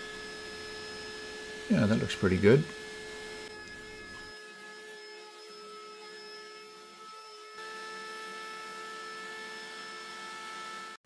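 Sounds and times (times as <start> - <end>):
wood router motor whine: 0.0 - 11.0.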